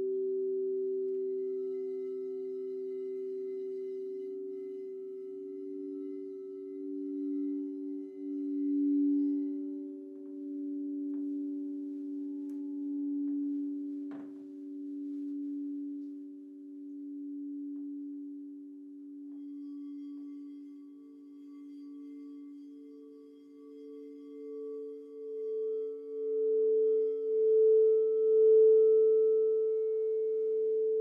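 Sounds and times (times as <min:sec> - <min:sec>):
crystal singing bowls ringing: 0:00.0 - 0:31.0.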